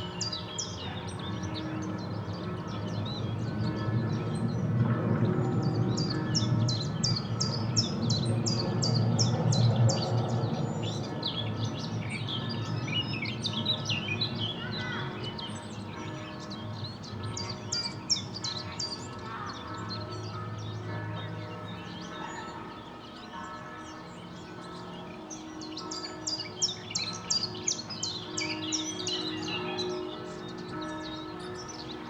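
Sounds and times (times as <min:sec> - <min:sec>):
distant church bells: 0:00.0 - 0:32.0.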